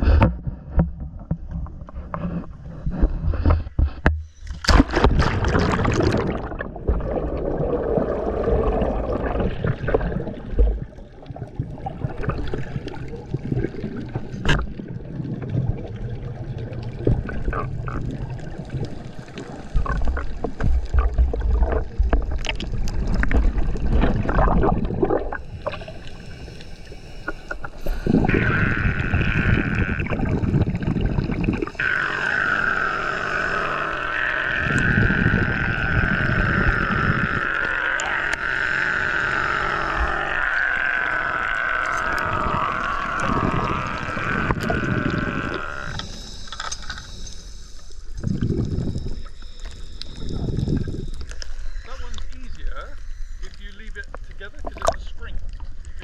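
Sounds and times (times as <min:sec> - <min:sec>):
underwater bubbling and rushing: 0:00.0 - 0:56.0.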